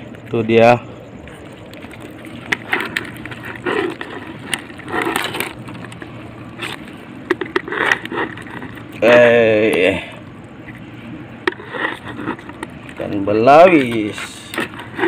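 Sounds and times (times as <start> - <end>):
fish scraping against bucket: 1.2 - 15.0.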